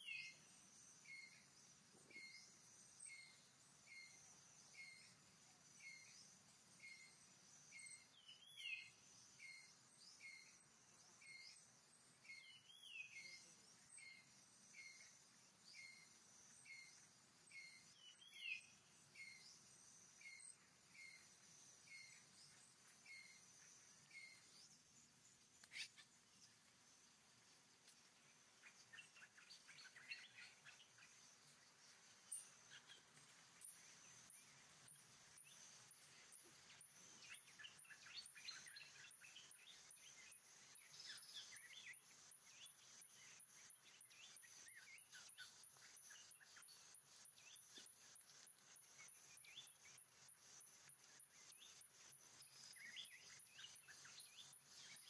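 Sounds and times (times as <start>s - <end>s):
high insect hum: 0.0s - 55.0s.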